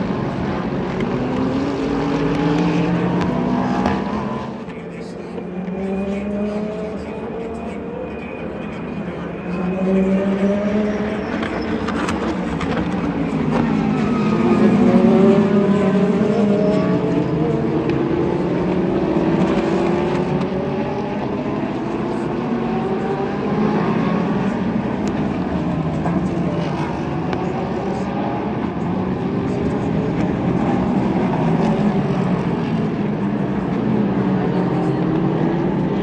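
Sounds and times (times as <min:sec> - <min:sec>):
race car engines passing at speed: 0:00.0 - 0:36.0.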